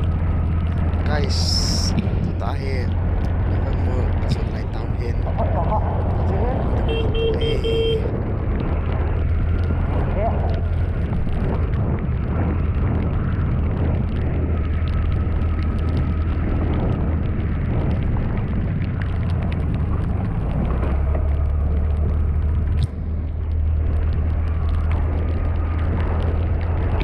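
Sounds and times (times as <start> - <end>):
vehicle road rumble: 0.0 - 27.0.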